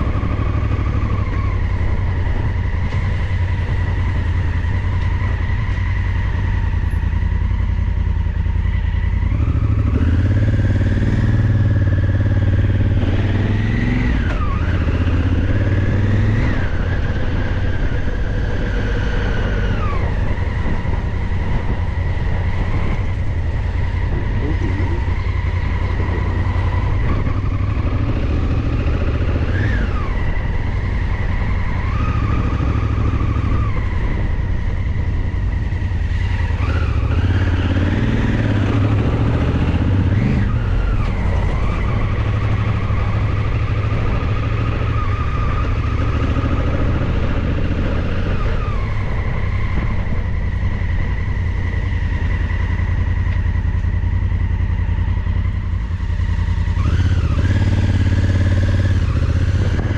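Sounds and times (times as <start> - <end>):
heavy low rumble: 0.0 - 9.0, 13.8 - 56.7
motorcycle engine revving: 0.0 - 59.9.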